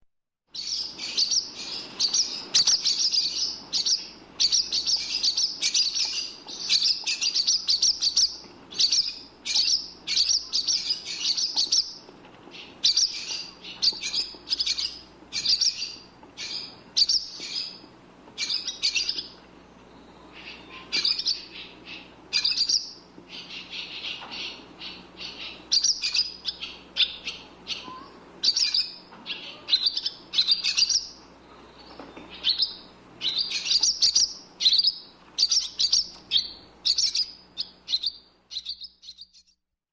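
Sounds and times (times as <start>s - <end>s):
bird chirping: 0.5s - 39.6s.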